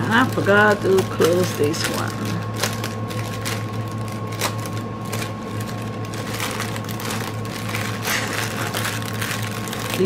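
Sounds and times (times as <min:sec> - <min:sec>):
low hum with high tone: 0:00.0 - 0:10.0
plastic bag clicks: 0:00.2 - 0:10.0.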